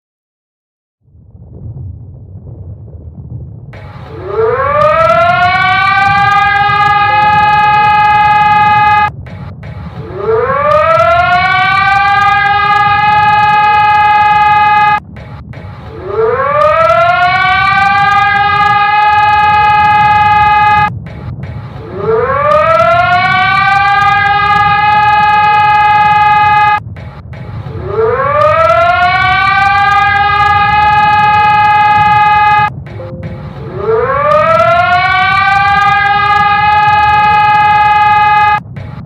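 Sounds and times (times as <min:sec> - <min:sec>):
low rumble: 0:01.0 - 0:39.0
emergency siren wailing: 0:03.8 - 0:39.0.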